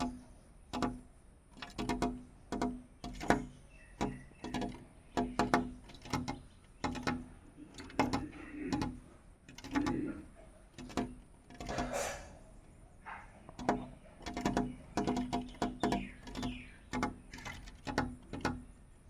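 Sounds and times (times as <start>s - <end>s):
bird pecking at glass: 0.0s - 19.0s.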